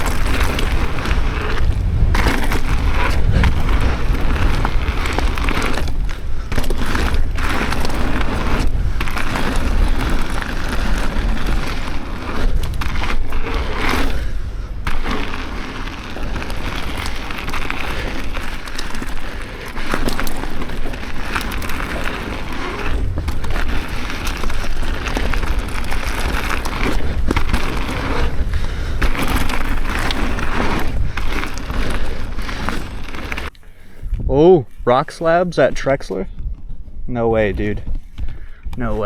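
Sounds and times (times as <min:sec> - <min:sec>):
bike chain and frame rattling: 0:00.0 - 0:34.0
tyres crunching over dirt: 0:00.0 - 0:39.0
wind rumbling on microphone: 0:00.0 - 0:39.0.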